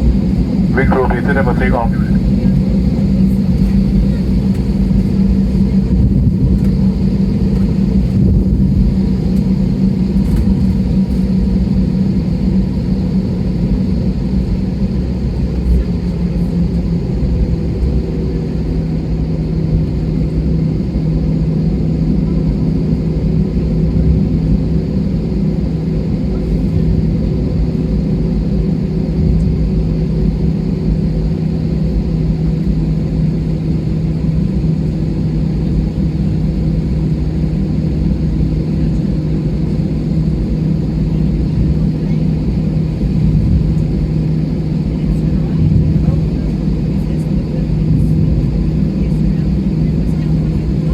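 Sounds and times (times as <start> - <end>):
jet engines droning at idle: 0.0 - 50.9.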